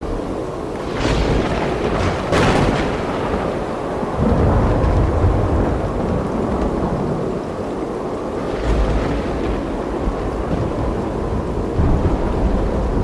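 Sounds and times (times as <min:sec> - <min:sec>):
rain hissing: 0:00.0 - 0:13.0
thunder rumbling: 0:00.0 - 0:13.0.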